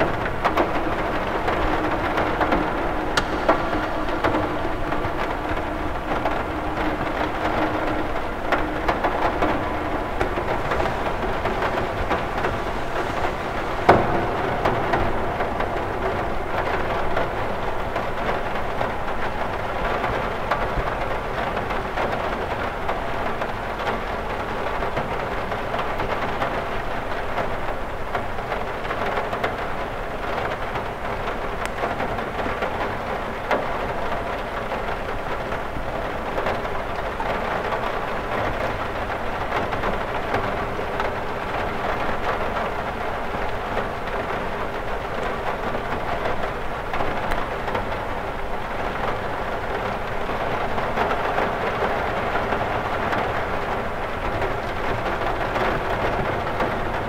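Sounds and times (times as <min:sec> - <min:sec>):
rain drumming on a window: 0:00.0 - 0:57.0.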